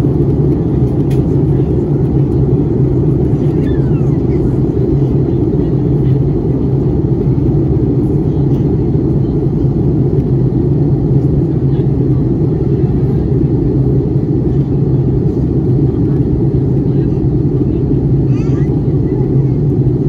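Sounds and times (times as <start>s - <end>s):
airliner cabin engine rumble: 0.0s - 20.0s
constant low hum: 0.0s - 20.0s.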